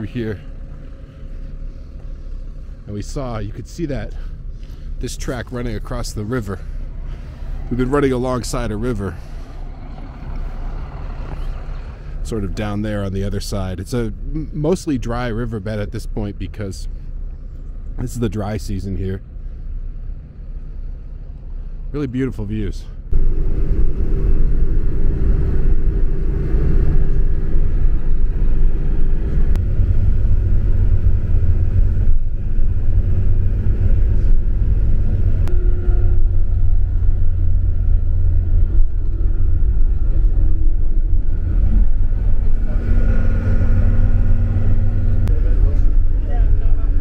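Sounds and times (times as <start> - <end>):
bus engine and road rumble: 0.0 - 47.0.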